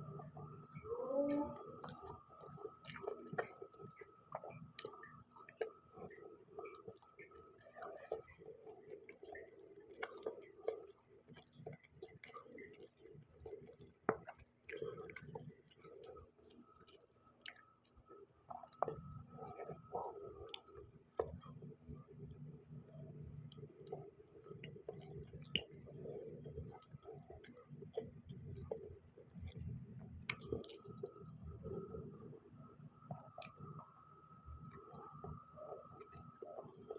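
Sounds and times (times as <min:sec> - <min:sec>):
close chewing: 0:00.6 - 0:32.2.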